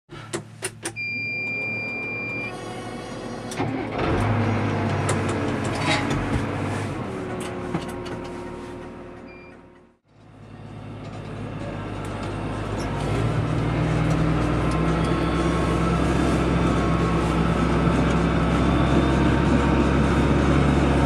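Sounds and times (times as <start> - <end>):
tractor engine running: 0.1 - 21.0.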